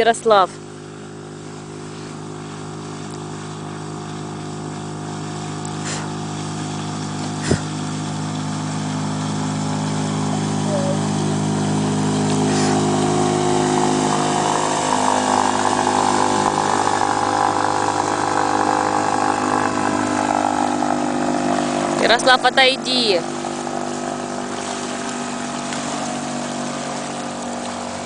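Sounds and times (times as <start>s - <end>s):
outboard motor running: 0.0s - 28.0s
rushing water: 0.0s - 28.0s.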